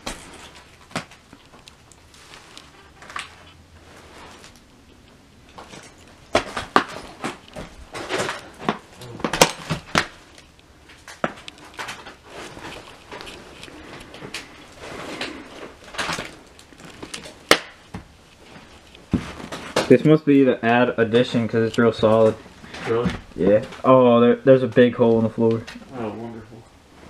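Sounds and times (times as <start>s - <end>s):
footsteps crunching over debris: 0.0s - 23.9s.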